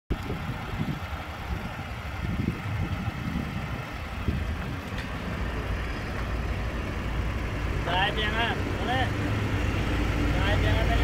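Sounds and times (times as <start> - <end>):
diesel truck engine idling: 0.1 - 11.0.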